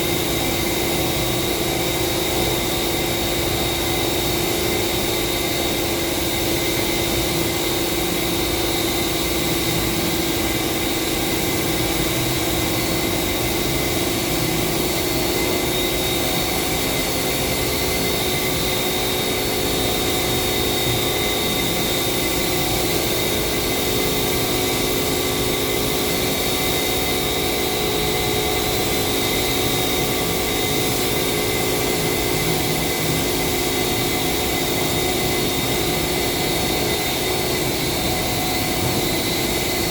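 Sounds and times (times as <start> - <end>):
constant hum and whine: 0.0 - 39.9.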